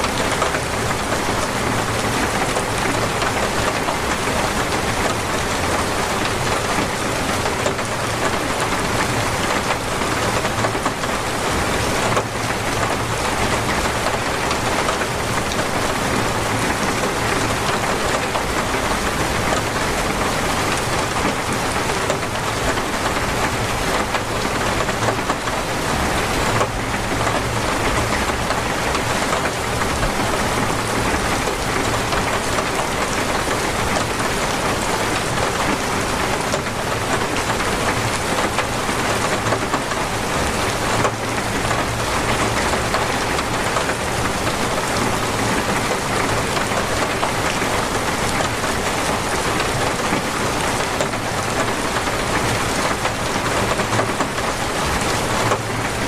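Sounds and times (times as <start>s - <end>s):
torrential rain: 0.0s - 56.0s.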